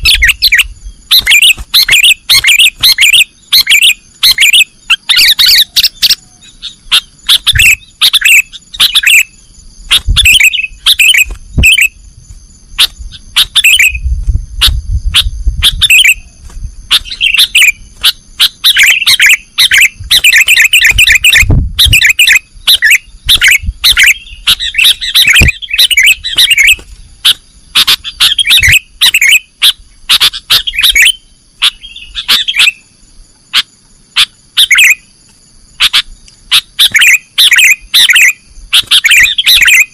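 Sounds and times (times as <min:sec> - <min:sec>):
bird singing chirping phrases: 0:00.0 - 0:39.9
faint high whine: 0:00.0 - 0:39.9.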